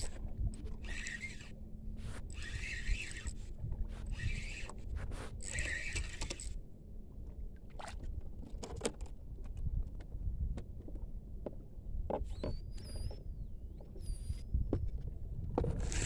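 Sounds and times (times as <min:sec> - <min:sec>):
wind rumbling on microphone: 0:00.0 - 0:06.2, 0:08.0 - 0:16.0.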